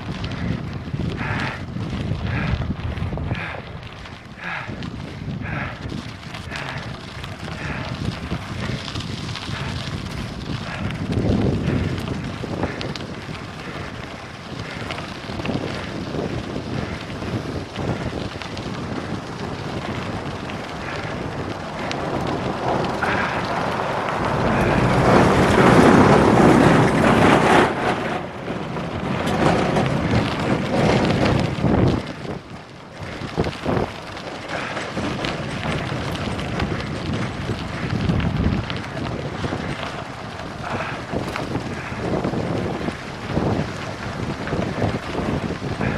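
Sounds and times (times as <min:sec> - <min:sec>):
tyres rattling over gravel: 0:00.0 - 0:45.9
wind buffeting microphone: 0:00.0 - 0:45.9.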